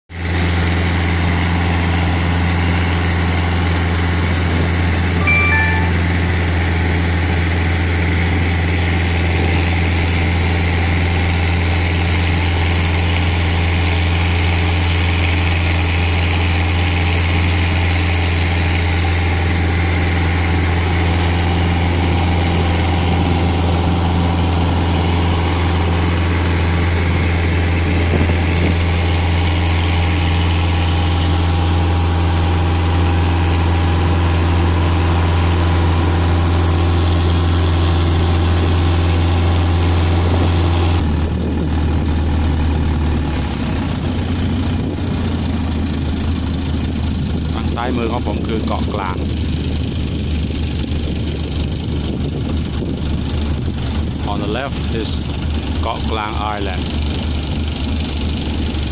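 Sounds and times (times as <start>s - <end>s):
boat engine droning: 0.1s - 58.9s.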